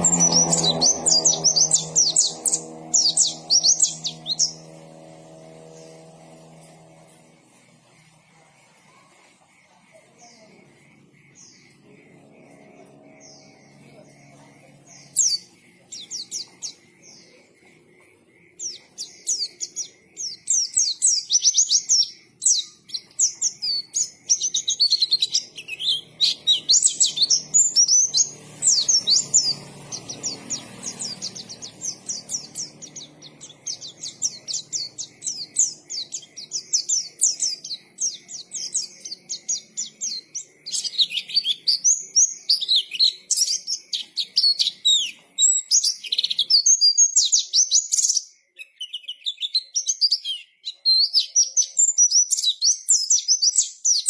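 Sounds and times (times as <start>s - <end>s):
bird twittering and trilling: 0.0s - 54.0s.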